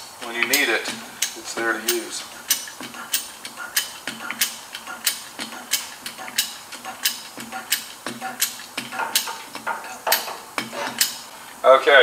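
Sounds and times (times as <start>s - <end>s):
hydraulic jack pumping clicks: 0.1s - 11.3s.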